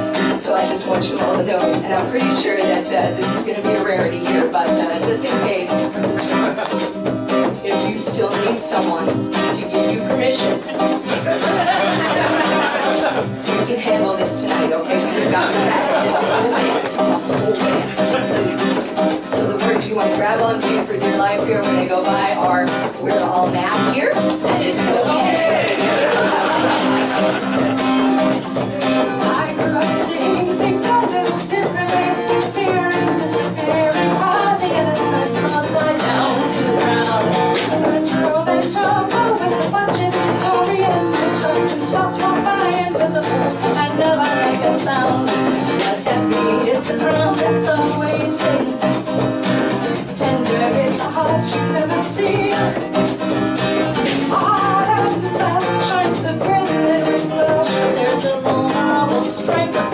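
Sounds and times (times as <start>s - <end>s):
acoustic guitar strumming: 0.0s - 59.9s
frame drum beat: 0.0s - 59.9s
woman singing: 0.0s - 59.9s.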